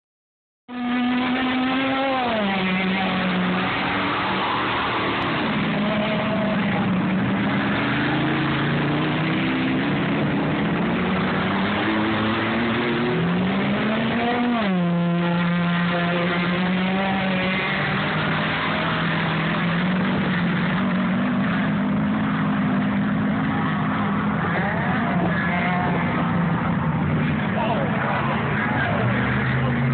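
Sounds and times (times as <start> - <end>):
vehicle engine revving: 0.7 - 29.9.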